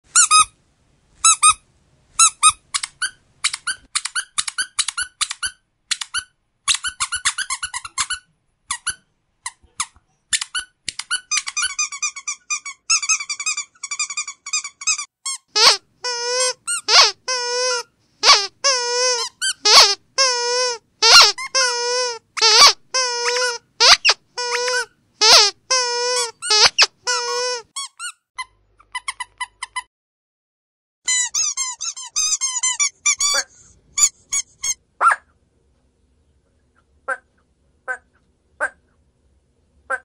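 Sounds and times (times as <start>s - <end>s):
squeaky dog toy squeaking: 0.1s - 0.6s, 1.2s - 1.6s, 2.2s - 29.9s, 31.1s - 35.2s.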